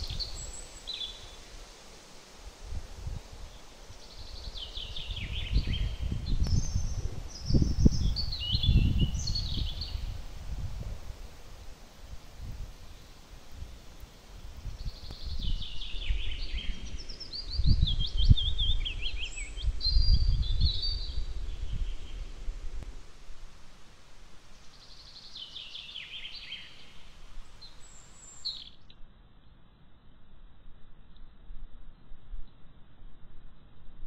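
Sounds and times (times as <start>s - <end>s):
songbird singing: 0.0s - 32.7s.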